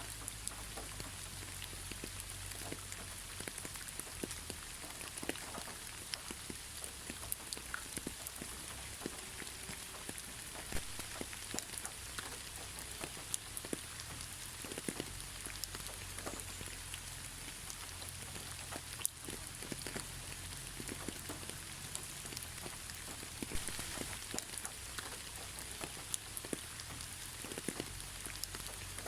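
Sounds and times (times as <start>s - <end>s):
raindrops pattering on a surface: 0.0s - 29.0s
steady rain hiss: 0.0s - 29.0s.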